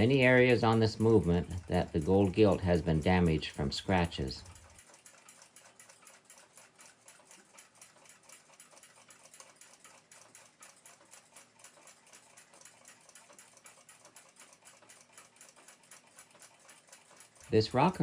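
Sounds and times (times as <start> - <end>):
faint clock ticking: 0.0 - 18.0.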